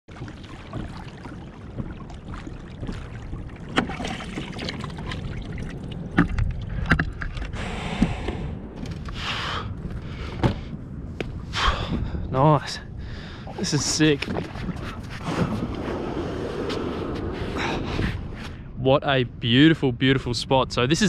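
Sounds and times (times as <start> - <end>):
water swishing along kayak hull: 0.1 - 12.1, 12.9 - 18.7
steady low rumble: 0.9 - 21.0.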